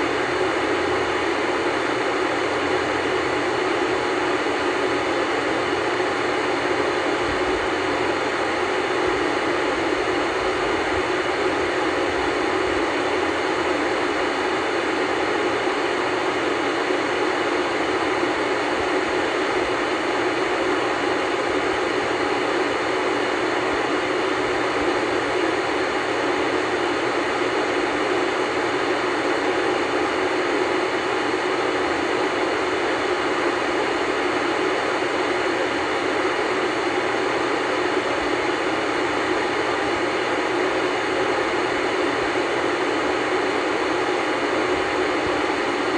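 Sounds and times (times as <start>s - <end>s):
tv static hiss: 0.0s - 45.9s.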